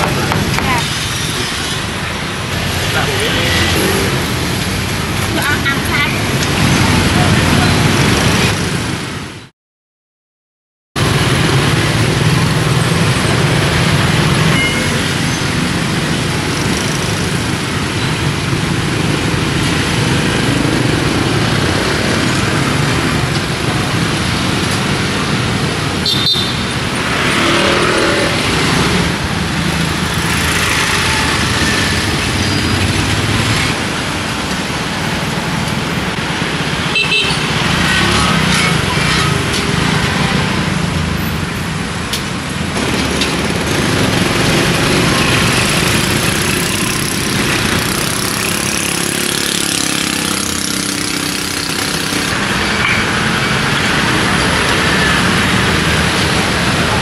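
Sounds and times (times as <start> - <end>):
traffic of motorbikes and cars: 0.0 - 9.5, 11.0 - 57.0.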